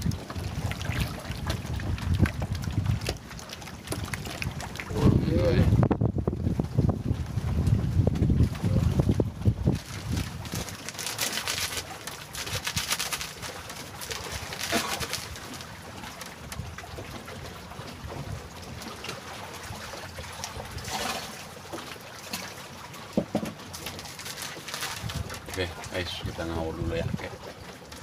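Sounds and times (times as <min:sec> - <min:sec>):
water slapping against a raft: 0:00.0 - 0:28.0.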